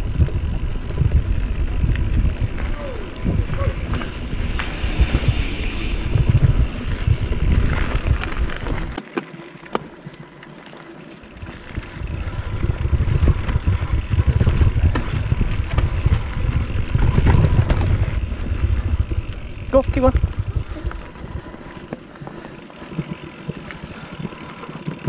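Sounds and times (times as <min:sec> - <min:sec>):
bike clicks and rattles: 0:00.0 - 0:25.0
wind and tyres rumbling: 0:00.0 - 0:25.0.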